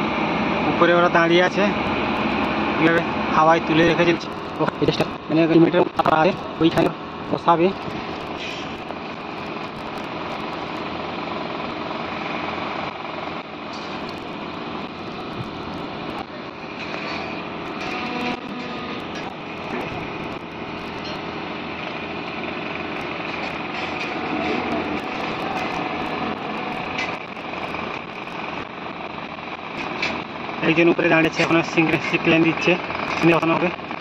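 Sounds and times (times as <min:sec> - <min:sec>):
diesel crane engines running: 0:00.0 - 0:34.0.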